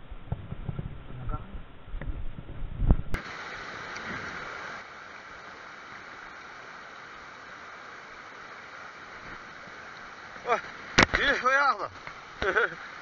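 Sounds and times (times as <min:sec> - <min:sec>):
stream running over rocks: 0:00.2 - 0:13.0.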